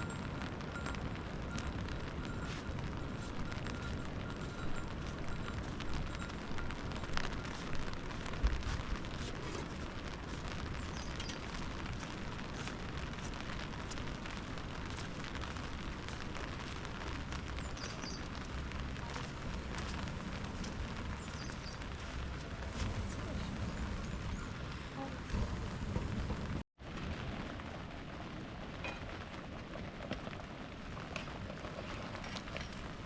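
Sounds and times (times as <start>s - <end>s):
low steady rumble: 0.0s - 33.0s
wood fire crackling and popping: 0.0s - 33.0s.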